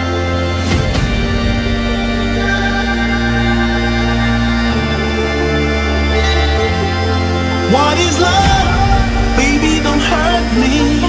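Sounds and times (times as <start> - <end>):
music with sustained chords: 0.0 - 11.0.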